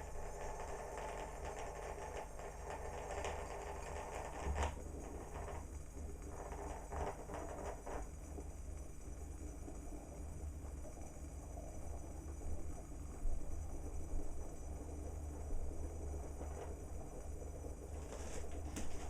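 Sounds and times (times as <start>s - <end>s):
coffee maker bubbling: 0.0s - 19.0s.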